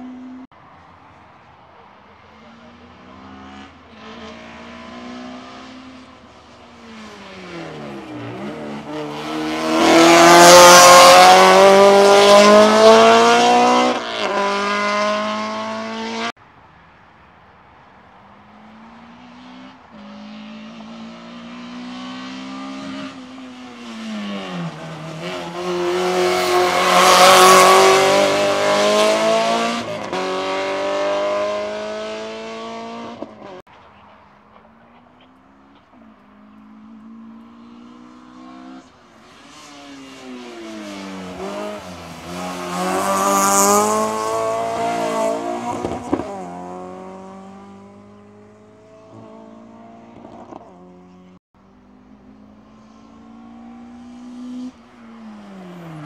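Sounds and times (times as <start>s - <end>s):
race car accelerating past: 2.6s - 16.3s, 18.6s - 33.6s, 36.4s - 51.2s, 51.9s - 56.0s.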